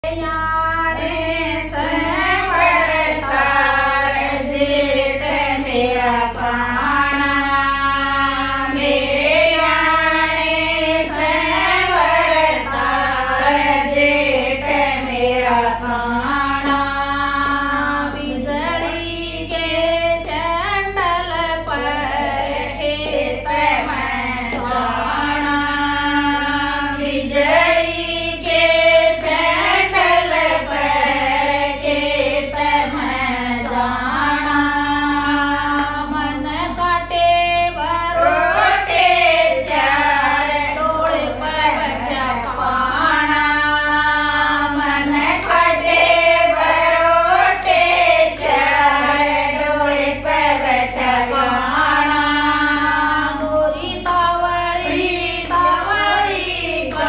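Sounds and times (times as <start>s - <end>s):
women singing folk song: 0.0s - 57.0s.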